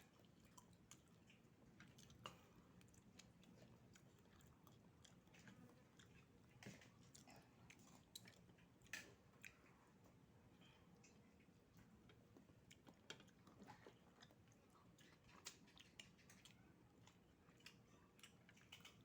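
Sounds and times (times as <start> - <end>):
faint chewing: 0.0 - 19.0.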